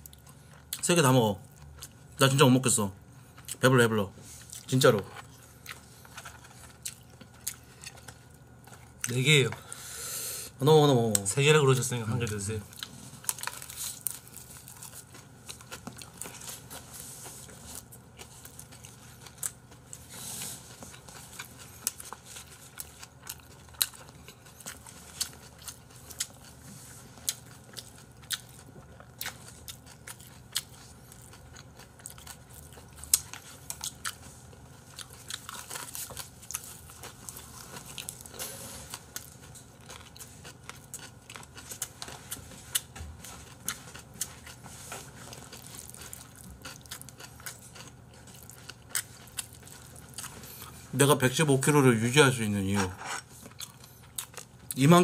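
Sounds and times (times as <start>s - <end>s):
chewing and mouth sounds: 4.4s - 9.2s, 12.6s - 50.9s, 52.7s - 54.9s.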